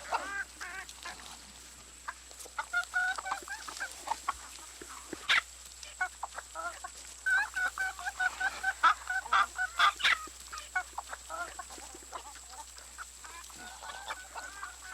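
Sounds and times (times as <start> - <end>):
chickens clucking: 0.0 - 14.9.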